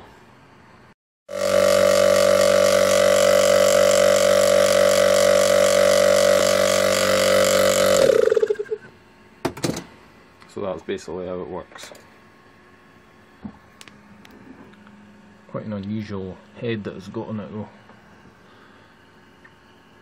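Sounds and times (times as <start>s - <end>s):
compressor motor humming: 1.3s - 9.5s, 10.1s - 20.0s.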